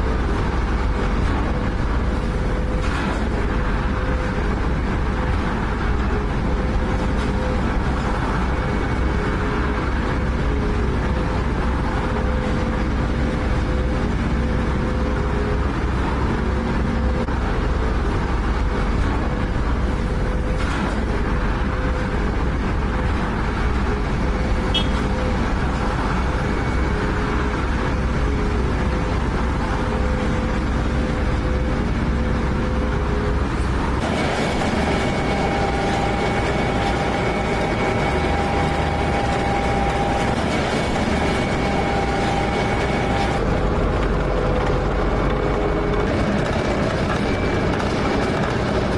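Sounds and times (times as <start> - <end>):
road paving machinery engines running: 0.0 - 48.9.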